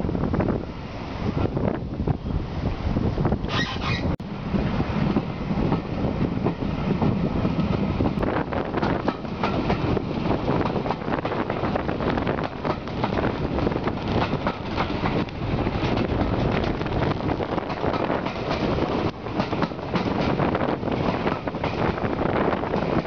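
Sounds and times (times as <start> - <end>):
train rumble and rush: 0.0 - 23.0
wheels clattering on rails: 3.3 - 23.0.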